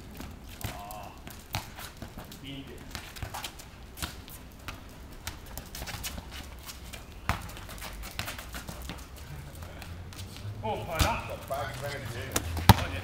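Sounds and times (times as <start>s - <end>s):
football kicked on asphalt: 0.0s - 10.2s, 10.8s - 11.4s, 12.0s - 13.0s
dog paws on asphalt: 0.0s - 13.0s
running feet scuffing: 1.4s - 13.0s.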